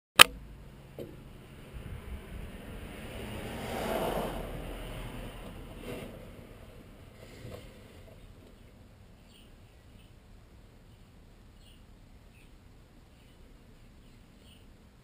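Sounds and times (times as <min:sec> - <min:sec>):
low steady hum: 0:00.2 - 0:15.0.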